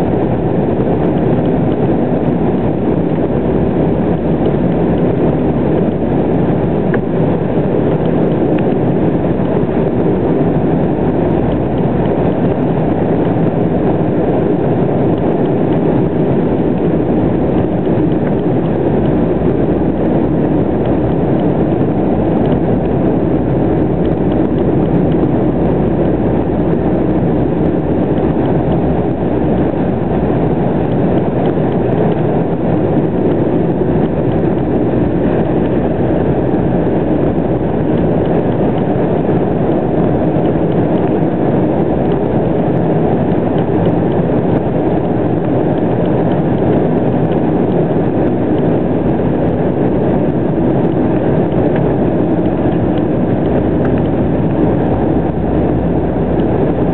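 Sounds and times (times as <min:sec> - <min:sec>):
jet airliner cabin noise: 0:00.0 - 0:56.9.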